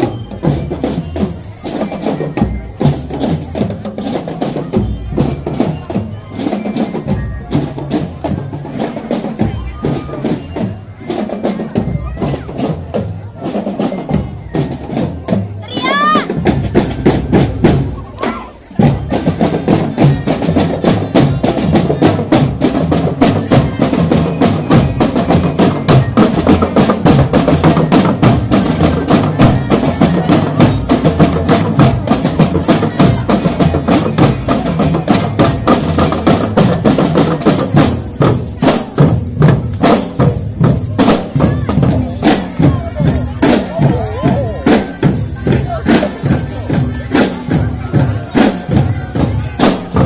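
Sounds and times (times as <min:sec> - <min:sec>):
marching drum band playing: 0:00.0 - 0:50.0.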